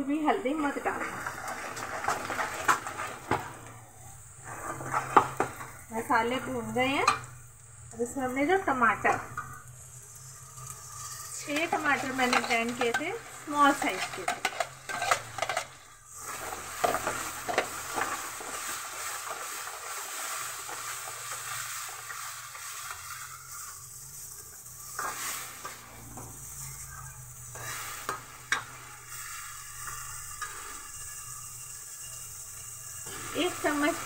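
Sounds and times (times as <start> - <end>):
masala sizzling in hot oil: 0.0 - 34.0
ladle stirring and scraping pan: 0.5 - 7.4, 9.0 - 34.0.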